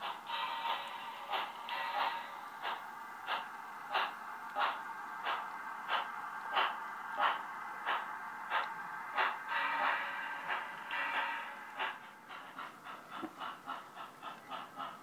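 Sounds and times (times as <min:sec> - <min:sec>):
continuous hiss: 0:00.0 - 0:15.0
simulated steam locomotive chuffs: 0:00.0 - 0:15.0.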